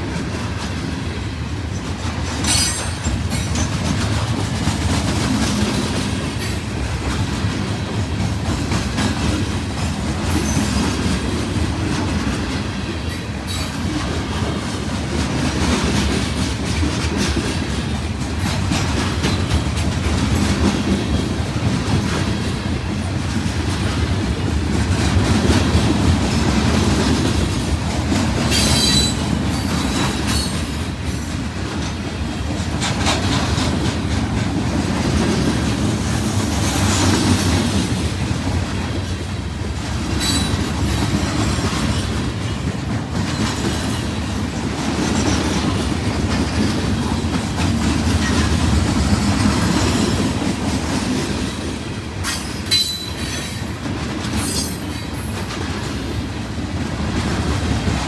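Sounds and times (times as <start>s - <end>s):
train rumbling over rails: 0.0s - 58.0s.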